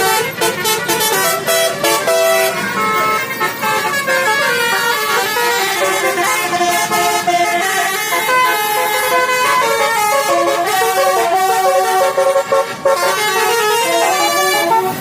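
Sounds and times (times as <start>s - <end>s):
multi-tone musical air horn: 0.0s - 15.0s.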